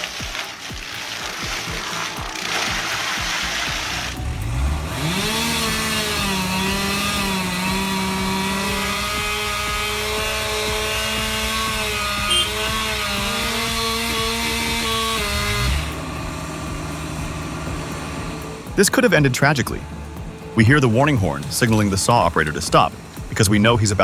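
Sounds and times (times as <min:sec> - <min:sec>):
chainsaw running at full throttle: 0:00.0 - 0:24.0.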